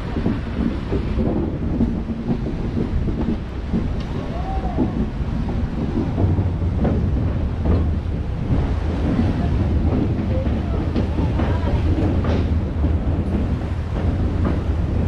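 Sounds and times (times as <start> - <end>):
knocks from the track: 0.0 - 15.0
train wheels rumbling: 0.0 - 15.0
wind buffeting microphone: 0.0 - 15.0.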